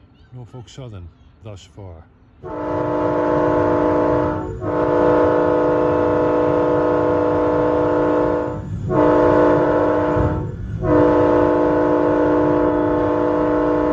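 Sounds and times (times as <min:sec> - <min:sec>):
train running rumble: 0:02.1 - 0:13.9
locomotive air horn blasts: 0:02.4 - 0:13.9.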